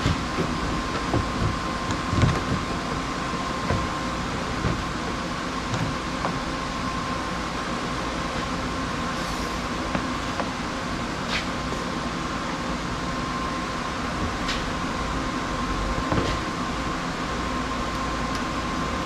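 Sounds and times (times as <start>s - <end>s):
mechanical hum with high tone: 0.0s - 19.0s.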